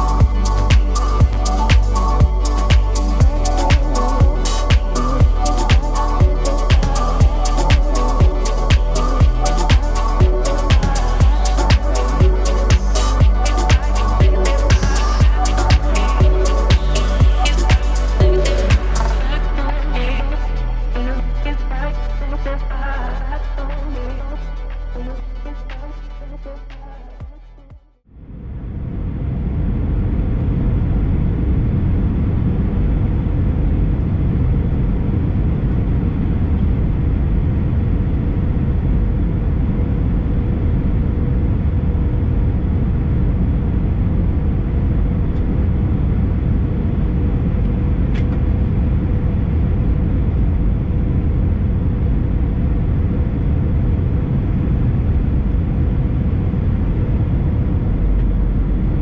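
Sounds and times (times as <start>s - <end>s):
faint constant hum: 0.0s - 27.1s, 28.1s - 59.0s.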